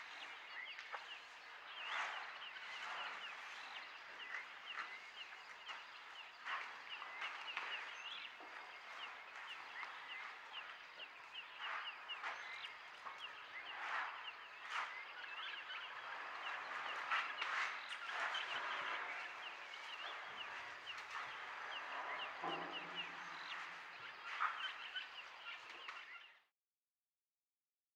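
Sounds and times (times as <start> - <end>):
small birds chirping: 0.0 - 26.5.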